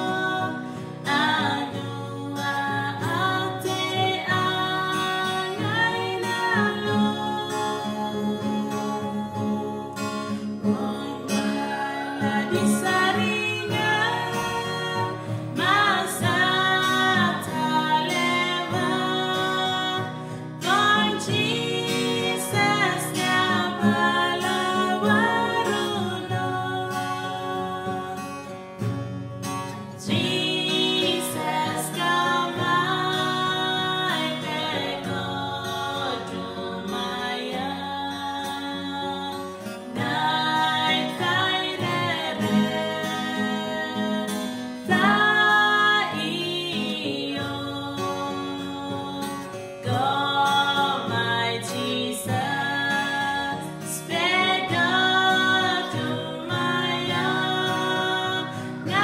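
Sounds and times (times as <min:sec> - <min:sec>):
women singing together: 0:00.0 - 0:28.6, 0:29.8 - 0:59.0
strummed acoustic guitar: 0:00.0 - 0:59.0.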